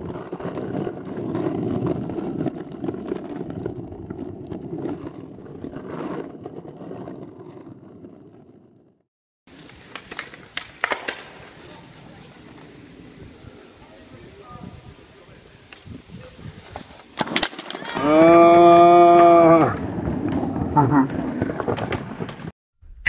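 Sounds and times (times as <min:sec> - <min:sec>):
skateboard wheels rolling on pavement: 0:00.0 - 0:22.5.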